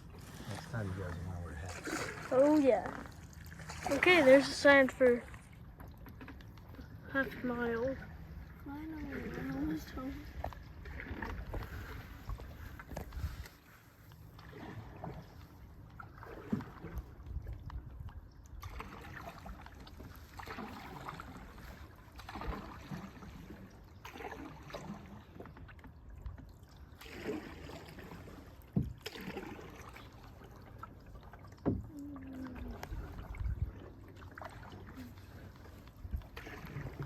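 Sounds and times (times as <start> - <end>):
paddles splashing through water: 0.0 - 37.0.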